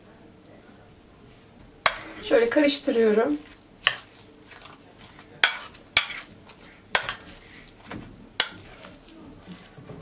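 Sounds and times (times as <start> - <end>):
fork stirring mashed potato: 1.8 - 10.0.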